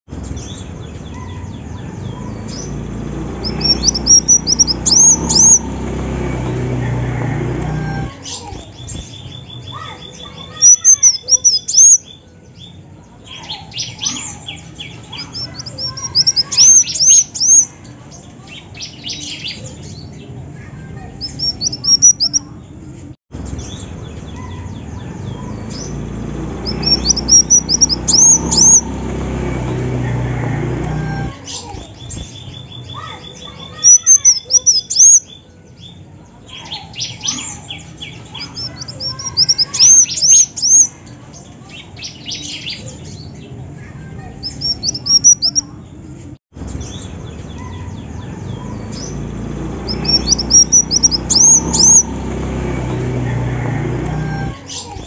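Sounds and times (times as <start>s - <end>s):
bird singing high chirps: 0.1s - 20.3s, 21.2s - 22.8s, 23.5s - 29.3s, 31.0s - 43.5s, 44.4s - 45.8s, 46.6s - 53.0s.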